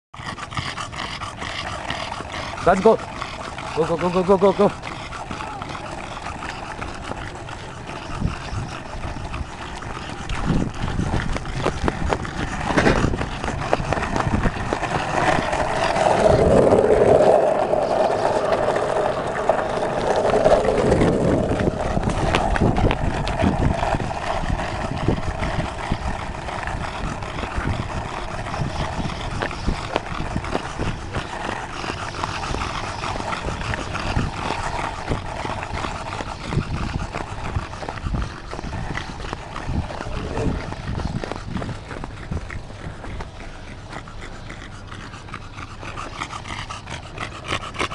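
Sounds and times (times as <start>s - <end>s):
skateboard wheels rolling on asphalt: 0.2s - 47.9s.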